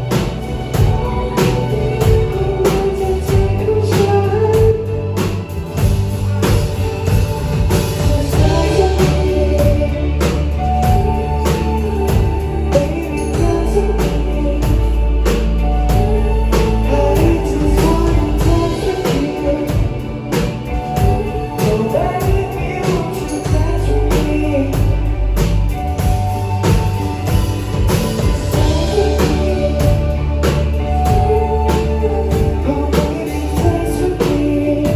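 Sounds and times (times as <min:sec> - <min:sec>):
bass guitar and guitar: 0:00.0 - 0:34.9
drum kit beat: 0:00.0 - 0:34.9
person singing: 0:00.0 - 0:34.9.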